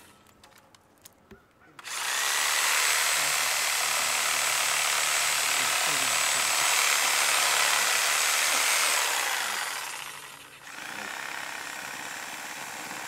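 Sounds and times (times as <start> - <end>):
electric chainsaw cutting branches: 1.8 - 13.0.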